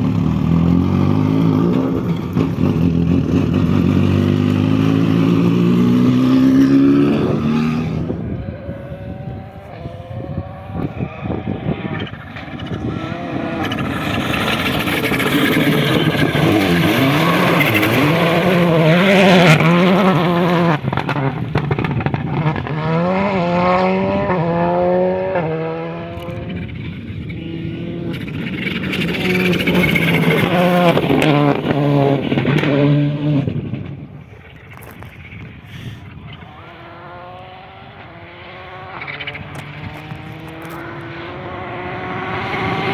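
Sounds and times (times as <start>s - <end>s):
rally car engine accelerating: 0.0s - 34.2s, 34.8s - 42.9s.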